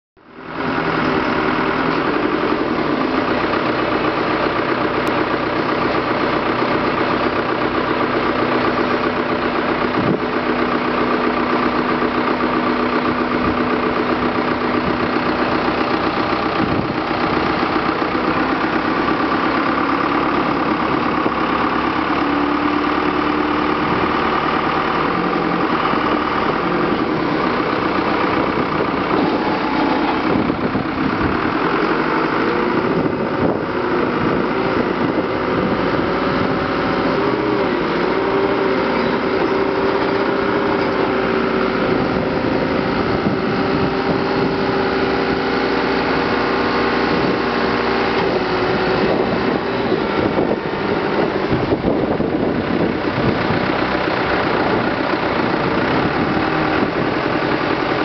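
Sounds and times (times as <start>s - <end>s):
diesel engine running: 0.2s - 58.0s.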